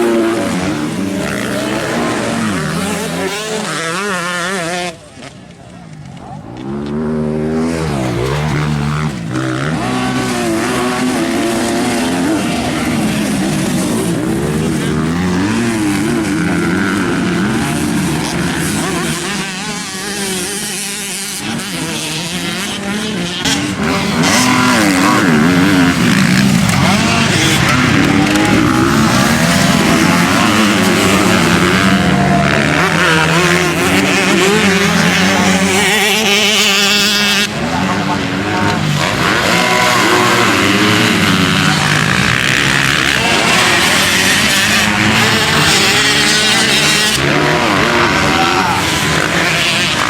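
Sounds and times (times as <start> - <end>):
motocross bike engines revving: 0.0 - 50.0.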